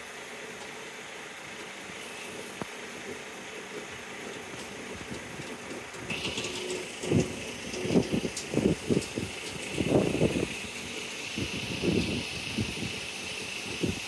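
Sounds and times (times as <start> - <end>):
freight train wheels rumbling: 0.0 - 14.0
wheels clunking over rail joints: 0.0 - 14.0.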